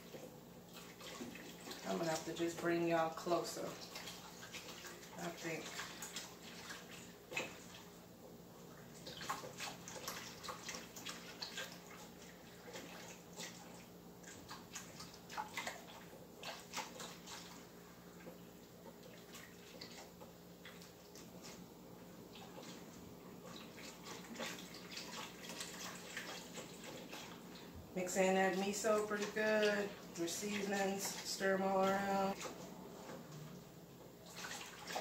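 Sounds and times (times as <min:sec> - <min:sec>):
liquid sloshing in a pot: 0:00.0 - 0:35.0.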